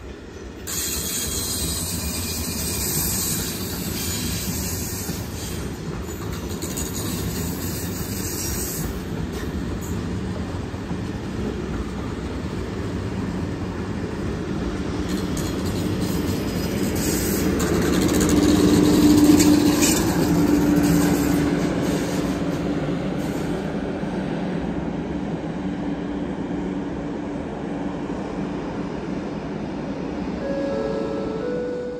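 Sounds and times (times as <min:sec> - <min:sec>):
train moving along tracks: 0:00.0 - 0:31.9.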